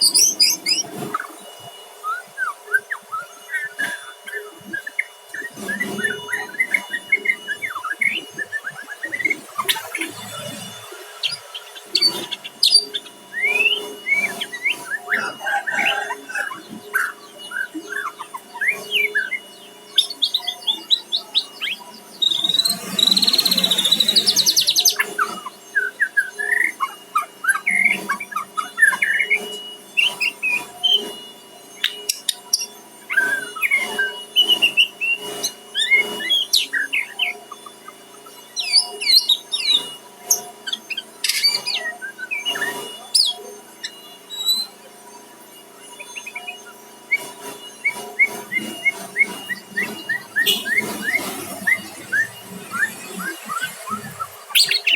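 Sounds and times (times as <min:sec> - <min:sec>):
songbird whistling and chirping: 0:00.0 - 0:54.9.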